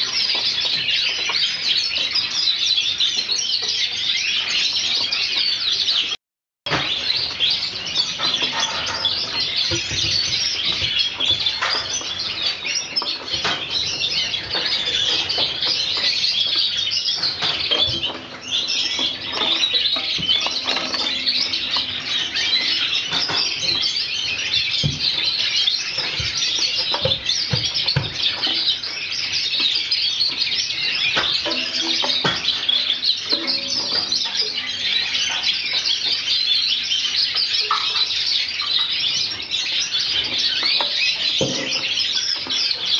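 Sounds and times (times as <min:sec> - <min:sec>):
cage birds chirping: 0:00.0 - 0:42.9.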